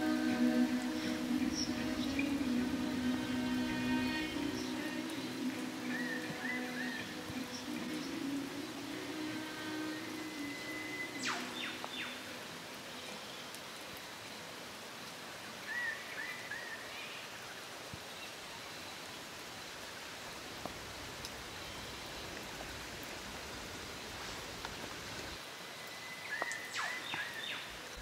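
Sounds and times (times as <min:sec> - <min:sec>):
wet forest rain-like hiss: 0:00.0 - 0:28.0.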